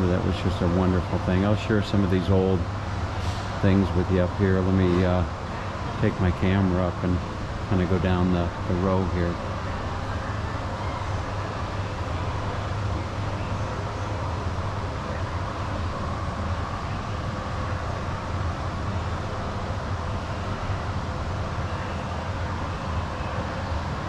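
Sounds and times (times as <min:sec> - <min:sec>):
background rush: 0:00.0 - 0:24.0
low mechanical hum: 0:00.0 - 0:24.0.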